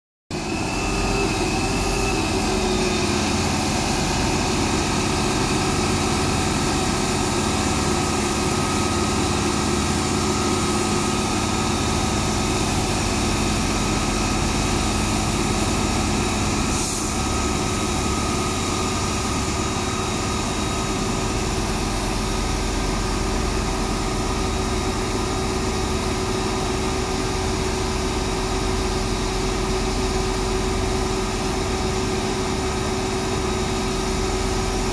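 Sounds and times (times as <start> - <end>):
diesel engine running: 0.3 - 34.9.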